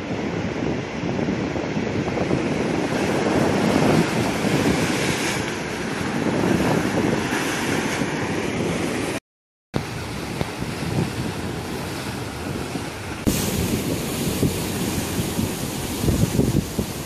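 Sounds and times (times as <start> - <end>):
sea surf breaking on rocks: 1.2 - 9.2, 9.8 - 17.0.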